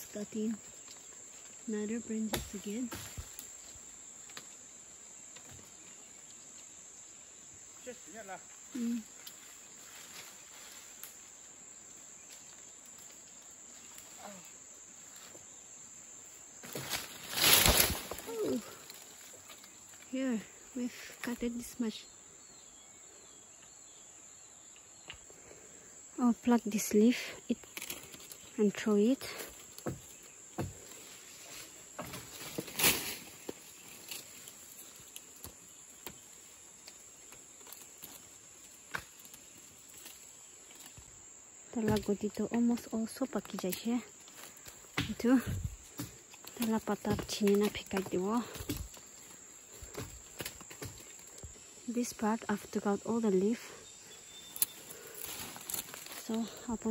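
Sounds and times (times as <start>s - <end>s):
leaves and twigs rustling: 0.0s - 23.8s, 24.6s - 56.9s
insect drone: 0.0s - 56.9s.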